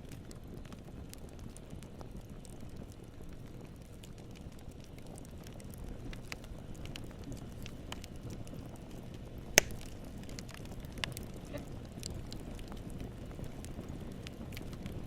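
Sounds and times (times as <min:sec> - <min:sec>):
burning wood crackling: 0:00.0 - 0:15.0
low rumble of flames: 0:00.0 - 0:15.0.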